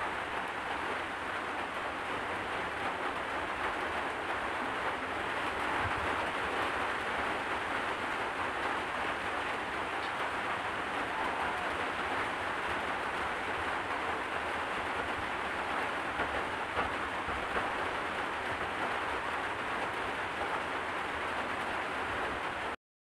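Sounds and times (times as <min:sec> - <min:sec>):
steady rain falling: 0:00.0 - 0:22.8.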